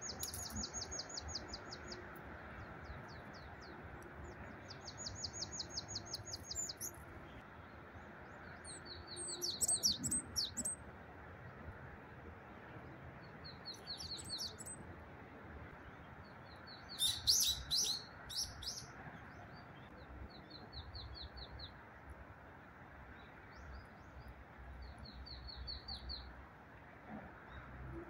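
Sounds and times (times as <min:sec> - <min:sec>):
distant road traffic hum: 0:00.0 - 0:28.0
songbirds chirping: 0:00.0 - 0:28.0.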